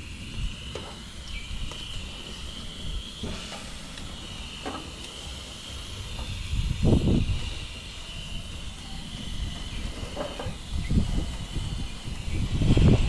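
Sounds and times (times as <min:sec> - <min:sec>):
gas burner rumble: 0:00.0 - 0:13.0
high insect drone: 0:00.0 - 0:13.0.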